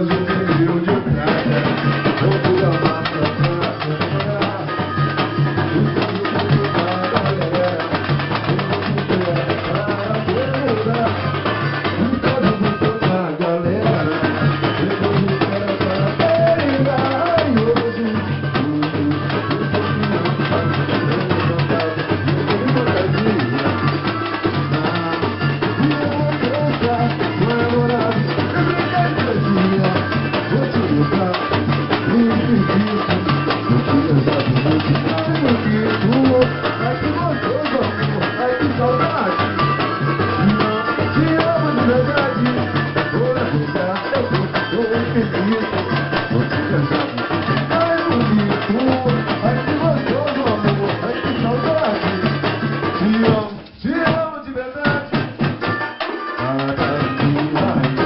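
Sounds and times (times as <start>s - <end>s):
percussion group drumming: 0.0s - 58.0s.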